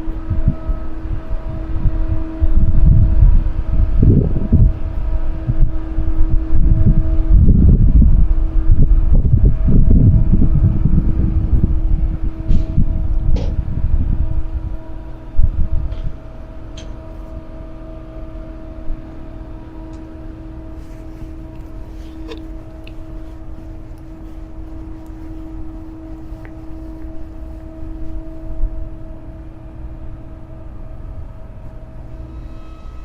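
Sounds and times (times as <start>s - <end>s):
wind buffeting microphone: 0.0s - 32.3s
steady hum: 0.0s - 33.0s.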